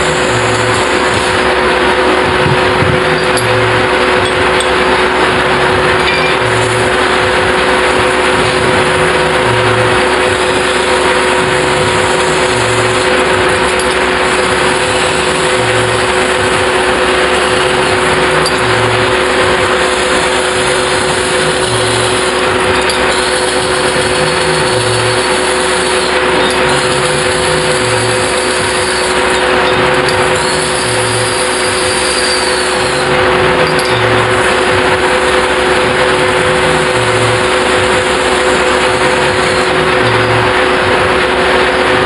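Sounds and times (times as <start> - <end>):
spinning lathe rushing noise: 0.0 - 42.0
two-note hum: 0.0 - 42.0.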